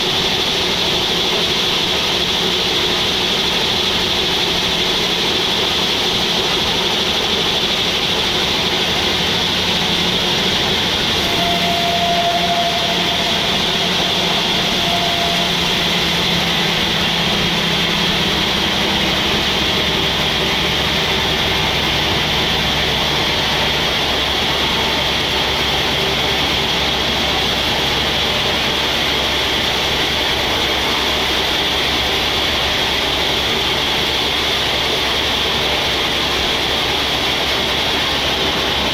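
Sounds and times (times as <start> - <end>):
sawmill machinery with high whine: 0.0 - 38.9.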